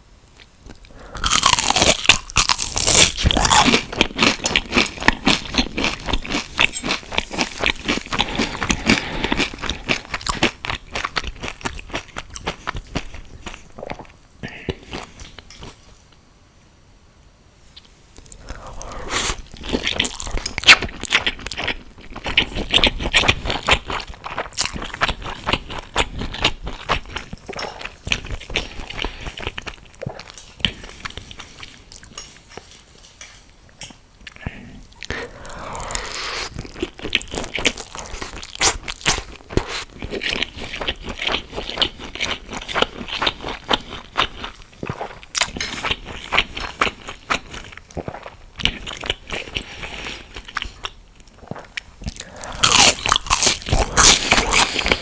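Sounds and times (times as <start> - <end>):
crunching bites and chewing: 0.4 - 14.2, 18.2 - 32.1, 34.9 - 55.0.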